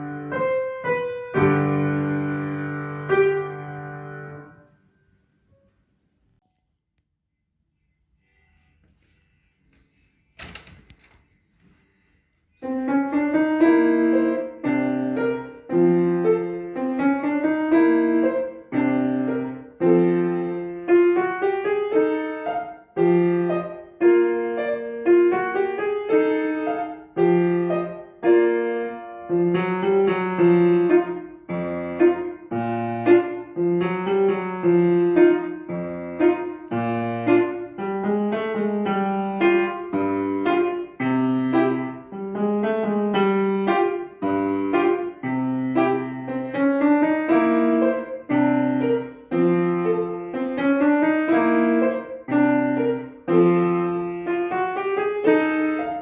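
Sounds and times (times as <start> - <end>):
classical piano piece: 0.0 - 4.9, 11.9 - 56.0.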